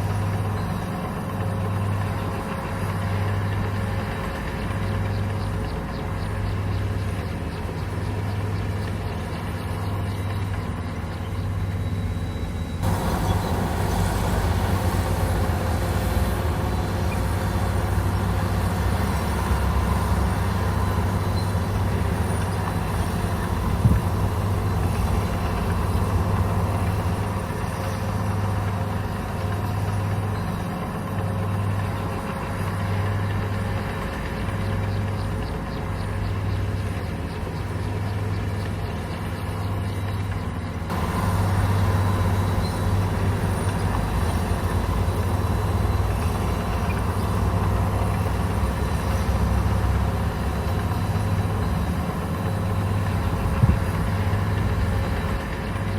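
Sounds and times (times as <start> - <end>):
bulldozer diesel engine throbbing: 0.0 - 55.9.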